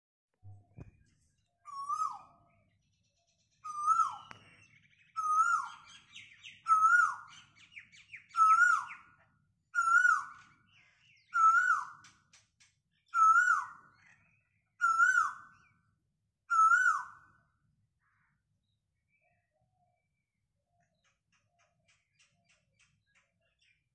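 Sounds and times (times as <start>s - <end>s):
faint bird chirps: 0.4s - 12.2s, 13.0s - 23.9s.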